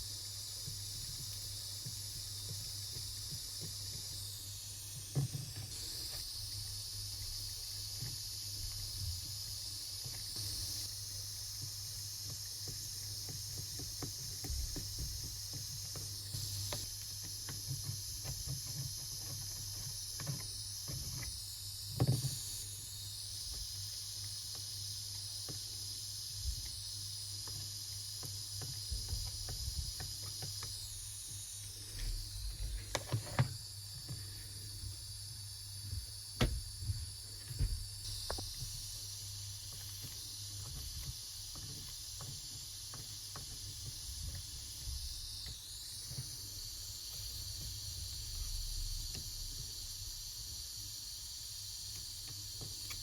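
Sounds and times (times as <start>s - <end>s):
steady hiss: 0.0s - 53.0s.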